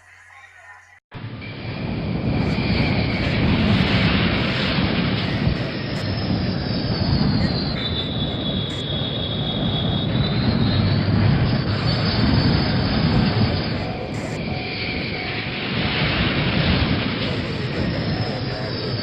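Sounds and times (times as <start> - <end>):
aircraft engine roar with turbine whine: 1.1 - 19.0.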